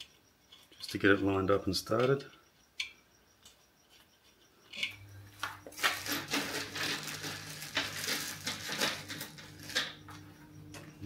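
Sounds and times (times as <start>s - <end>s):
small screws clinking: 1.8s - 10.9s.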